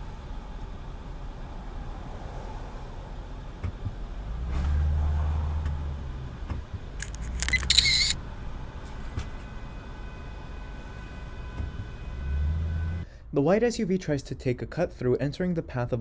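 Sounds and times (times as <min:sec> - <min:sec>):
car road and engine rumble: 0:00.0 - 0:13.3.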